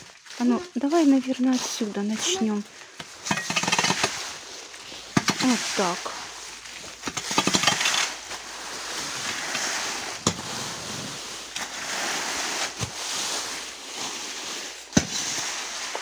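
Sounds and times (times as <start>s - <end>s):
rake rustling through leaves: 0.0s - 16.0s
rake tines tapping ground: 0.0s - 16.0s.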